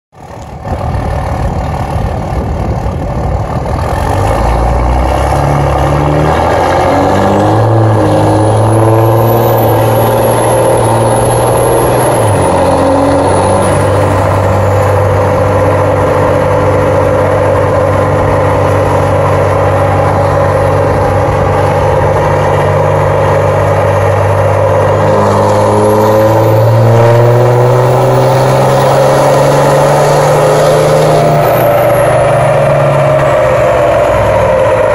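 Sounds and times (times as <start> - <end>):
diesel engine under load: 0.2 - 34.9.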